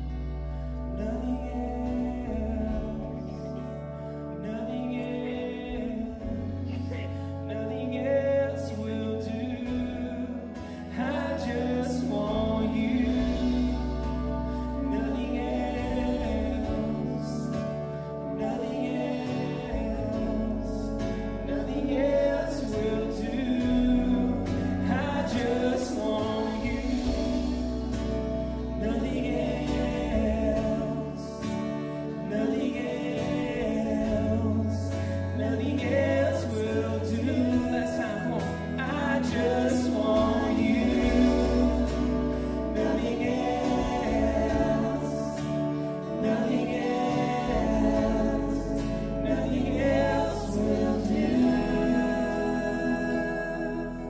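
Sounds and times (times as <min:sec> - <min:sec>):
keyboard: 0:00.0 - 0:54.0
man singing: 0:00.0 - 0:54.0
strummed acoustic guitar: 0:00.0 - 0:54.0
sustained bass notes: 0:00.0 - 0:54.0.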